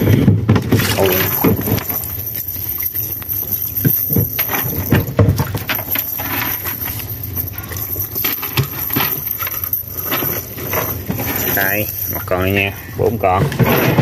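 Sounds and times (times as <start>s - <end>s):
chain weights clinking on wood: 0.0s - 14.0s.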